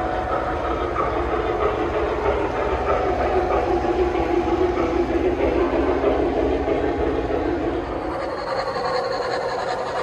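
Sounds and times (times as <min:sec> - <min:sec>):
model train running on track: 0:00.0 - 0:10.0.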